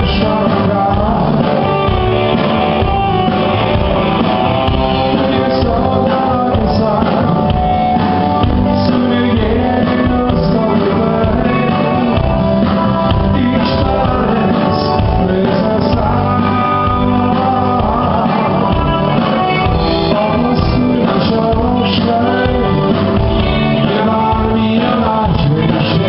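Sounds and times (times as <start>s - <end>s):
man singing: 0.0s - 3.0s, 3.7s - 26.0s
drum kit: 0.0s - 26.0s
electric guitars: 0.0s - 26.0s
keyboard: 0.0s - 26.0s.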